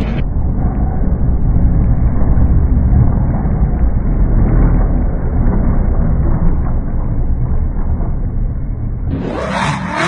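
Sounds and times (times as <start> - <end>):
truck engine roaring: 0.0 - 10.0.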